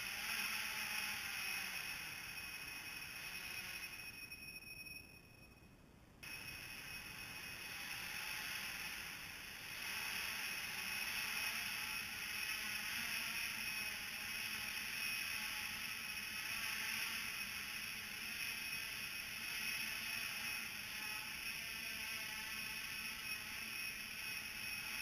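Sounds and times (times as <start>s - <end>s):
drone propellers whirring: 0.0s - 4.4s, 6.2s - 25.0s.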